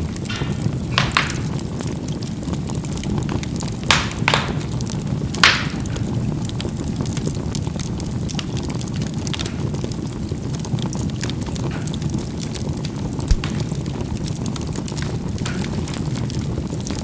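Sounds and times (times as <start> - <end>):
charcoal burning rumble: 0.0 - 17.0
coals popping: 0.0 - 17.0
small crackles: 0.0 - 17.0.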